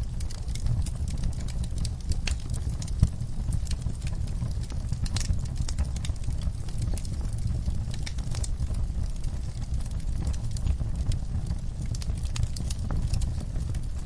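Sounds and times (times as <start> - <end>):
fire crackling and popping: 0.0 - 14.0
low rumble of flames: 0.0 - 14.0.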